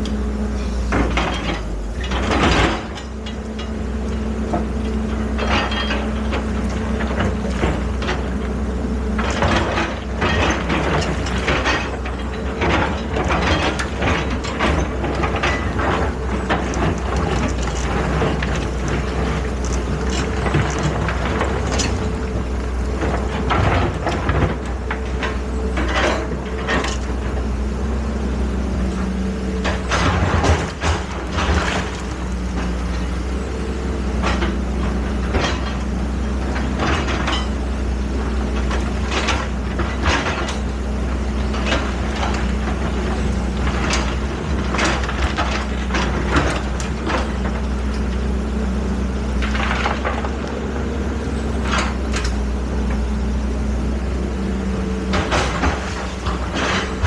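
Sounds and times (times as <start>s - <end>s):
diesel engine running: 0.0s - 57.0s
machine knocks and clatter: 0.9s - 8.4s, 9.1s - 27.5s, 29.5s - 33.4s, 34.0s - 48.3s, 49.3s - 53.1s, 55.0s - 57.0s.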